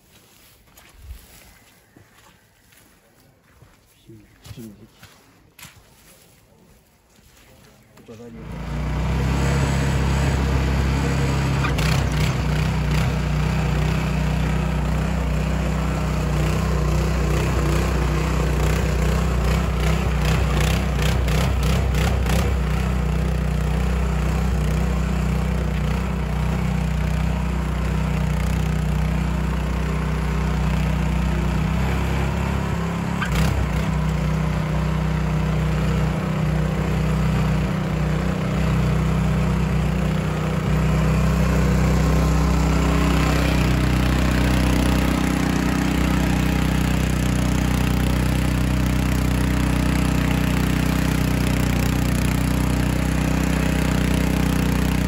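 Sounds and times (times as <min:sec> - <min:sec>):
walking tractor engine running: 0:00.0 - 0:55.0.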